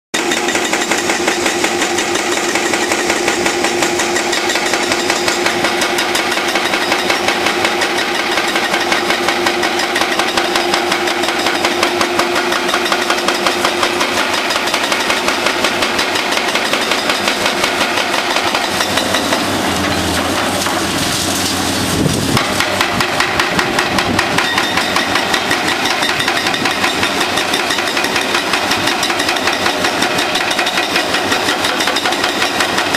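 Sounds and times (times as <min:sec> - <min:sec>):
hydraulic breaker hammering concrete: 0:00.2 - 0:32.9
diesel engines running: 0:01.0 - 0:32.9.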